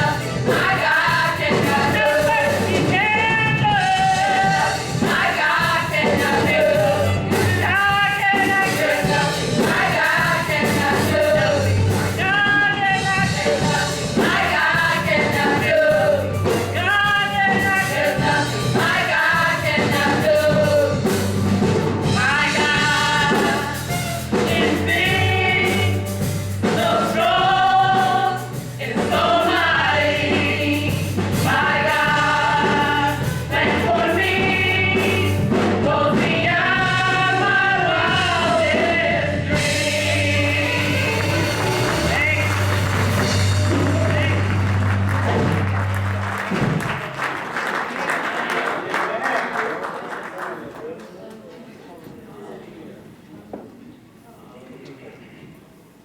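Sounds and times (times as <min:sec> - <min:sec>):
group singing gospel: 0:00.0 - 0:47.2
band accompaniment: 0:00.0 - 0:47.6.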